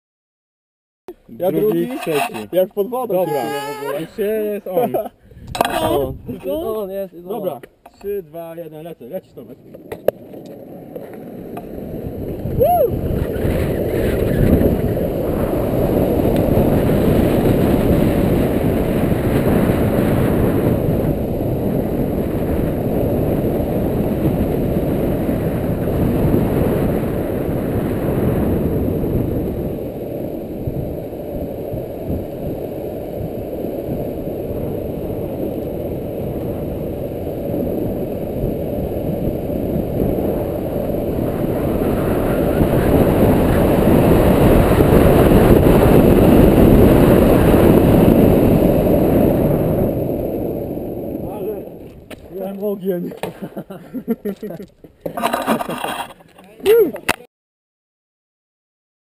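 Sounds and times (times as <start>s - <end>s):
wind on microphone: 1.1s - 2.6s, 3.2s - 7.5s, 9.6s - 52.6s
skateboard wheels rolling on asphalt: 9.3s - 57.3s.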